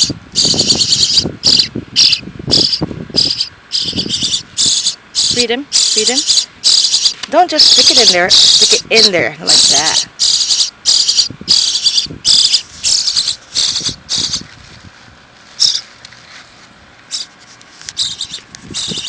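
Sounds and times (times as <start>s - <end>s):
nestling birds begging calls: 0.0s - 14.6s, 15.5s - 16.0s, 17.0s - 19.0s.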